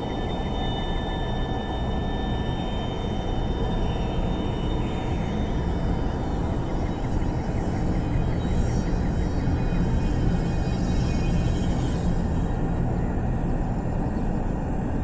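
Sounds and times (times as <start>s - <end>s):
dark ambient drone music: 0.0s - 15.0s.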